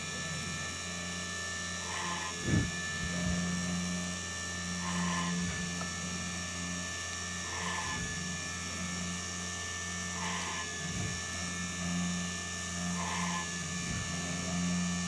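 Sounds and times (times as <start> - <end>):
drilling cutting noise: 0.0 - 15.0
machine spindle hum: 0.0 - 15.0.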